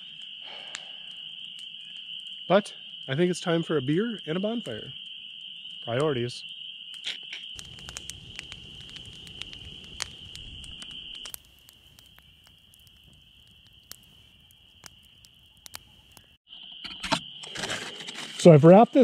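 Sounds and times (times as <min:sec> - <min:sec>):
bonfire crackling and popping: 0:00.0 - 0:16.8.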